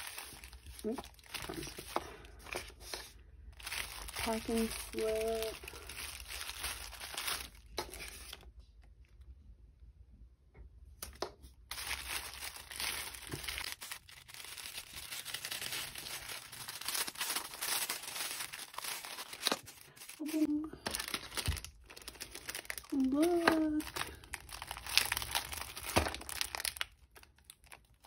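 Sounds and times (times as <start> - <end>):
tissue paper crinkling: 0.0 - 8.4, 11.7 - 28.0.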